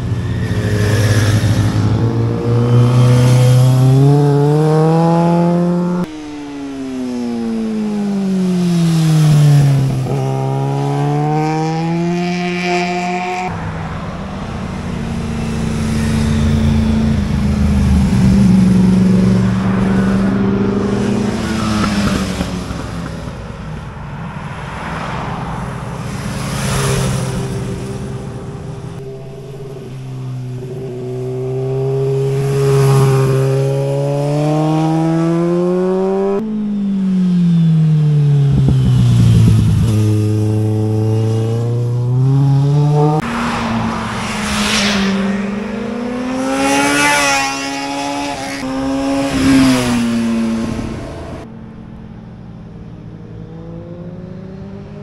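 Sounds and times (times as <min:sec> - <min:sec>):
motorcycle engines accelerating: 0:00.0 - 0:51.5.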